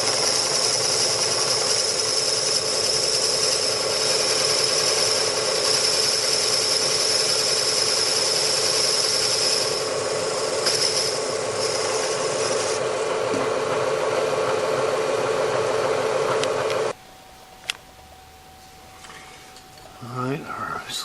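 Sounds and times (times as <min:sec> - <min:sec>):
machine tool high whine: 0:00.0 - 0:17.0.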